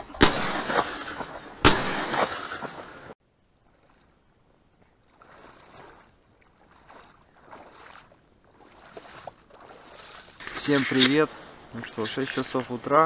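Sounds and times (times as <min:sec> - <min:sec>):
footsteps sloshing through water: 0:00.0 - 0:11.8.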